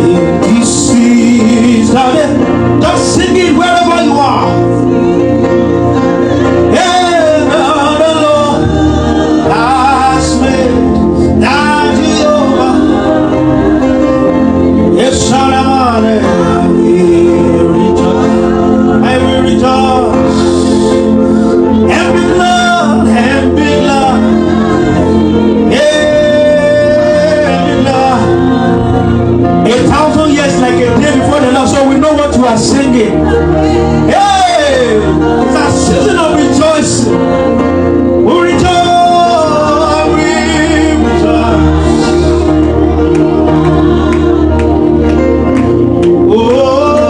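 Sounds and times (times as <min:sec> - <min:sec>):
male and female voices singing: 0:00.0 - 0:21.2, 0:21.8 - 0:47.0
bass line: 0:00.0 - 0:47.0
sustained keyboard chords: 0:00.0 - 0:47.0.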